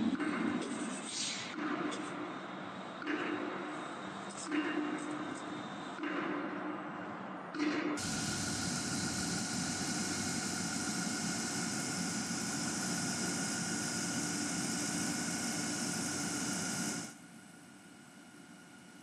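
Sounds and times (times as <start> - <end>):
industrial machinery drone: 0.0 - 19.0.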